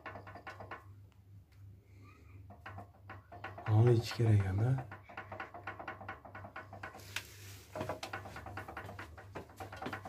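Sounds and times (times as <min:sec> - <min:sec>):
scattered knocks: 0:00.0 - 0:01.0, 0:02.4 - 0:10.0.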